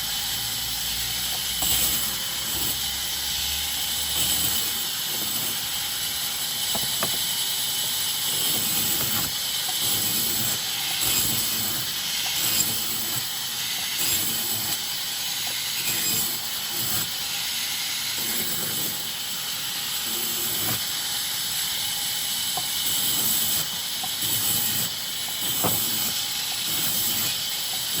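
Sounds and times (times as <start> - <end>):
saw blade rasping through wood: 0.7 - 28.0.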